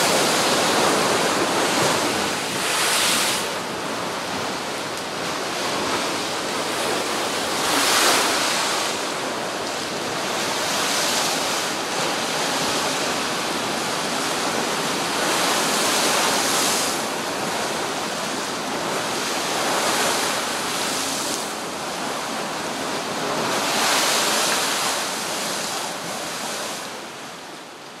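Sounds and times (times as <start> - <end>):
rough sea wash: 0.0 - 28.0
strong wind: 0.0 - 28.0
waves crashing: 0.0 - 28.0.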